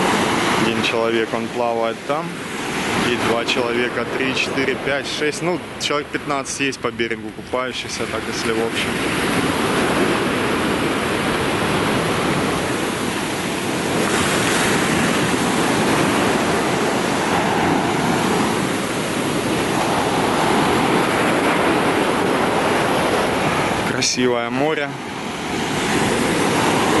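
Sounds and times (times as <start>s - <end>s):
small waves breaking on shore: 0.0s - 27.0s.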